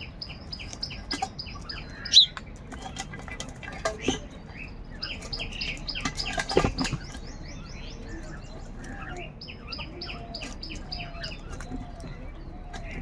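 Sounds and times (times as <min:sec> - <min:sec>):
birds chirping: 0:00.0 - 0:13.0
harsh low bird calls: 0:00.0 - 0:13.0.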